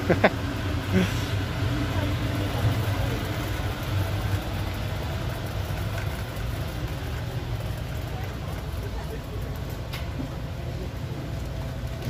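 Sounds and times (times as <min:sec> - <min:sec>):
grocery store background hum: 0:00.0 - 0:12.0
shopping cart pushed: 0:00.7 - 0:12.0.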